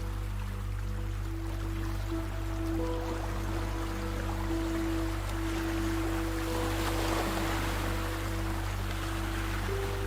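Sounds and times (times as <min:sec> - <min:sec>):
ambient music with held tones: 0:00.0 - 0:10.0
sea waves: 0:00.0 - 0:10.0.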